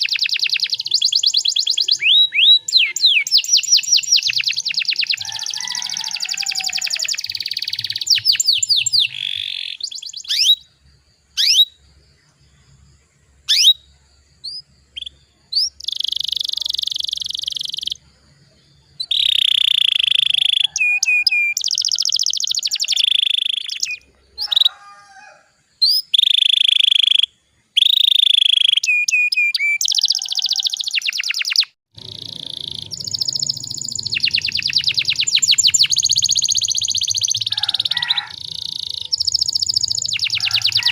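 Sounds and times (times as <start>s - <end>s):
canary singing: 0.0s - 11.8s, 13.4s - 18.0s, 18.6s - 40.9s.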